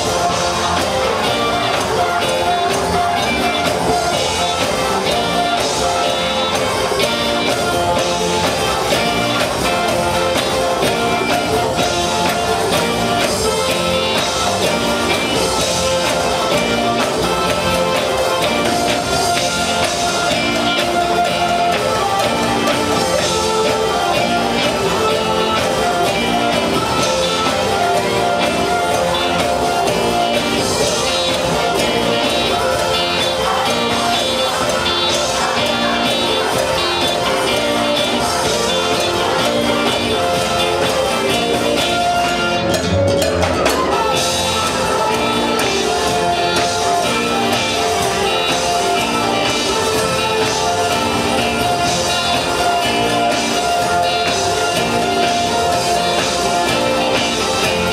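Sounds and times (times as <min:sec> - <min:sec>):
gospel band playing: 0:00.0 - 0:57.9.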